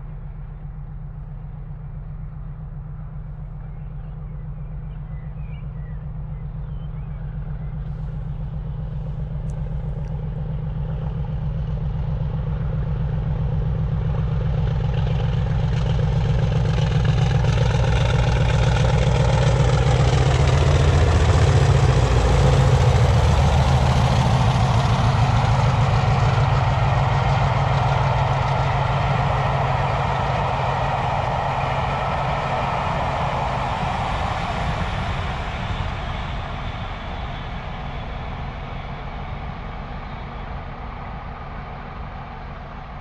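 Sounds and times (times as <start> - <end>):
diesel locomotive engines throbbing: 0.0 - 43.0
train coaches rumbling: 7.7 - 43.0.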